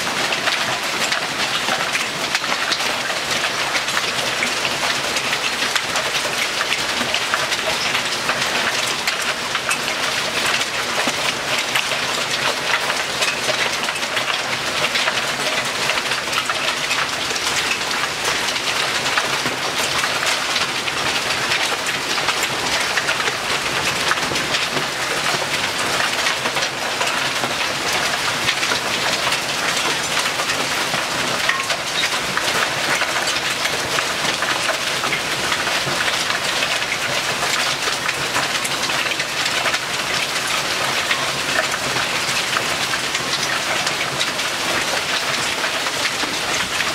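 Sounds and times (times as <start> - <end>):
heavy hail on hard surfaces: 0.0 - 46.9.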